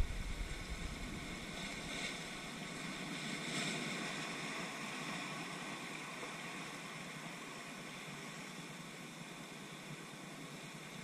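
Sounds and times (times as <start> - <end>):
surf rushing between rocks: 0.0 - 11.0.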